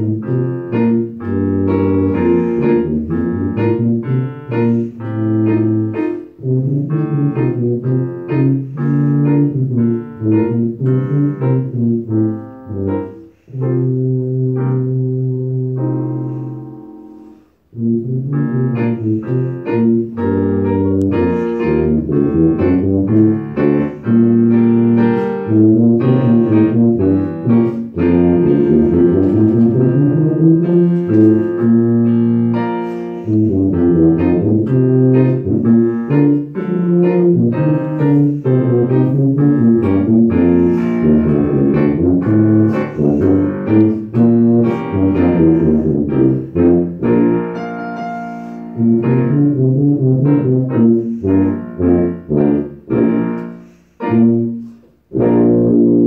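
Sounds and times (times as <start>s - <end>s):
digital piano accompaniment: 0.0s - 56.0s
tuba: 0.0s - 56.0s.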